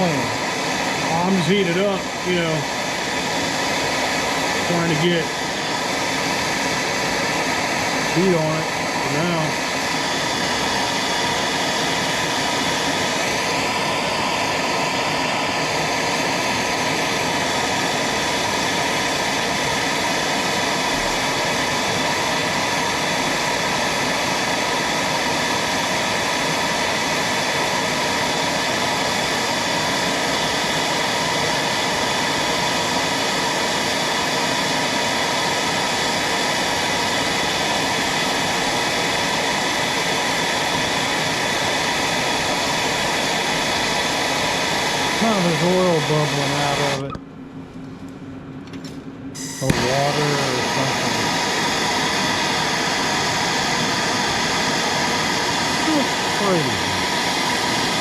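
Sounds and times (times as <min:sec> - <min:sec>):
gas torch flame burning: 0:00.0 - 0:47.1, 0:49.4 - 0:58.0.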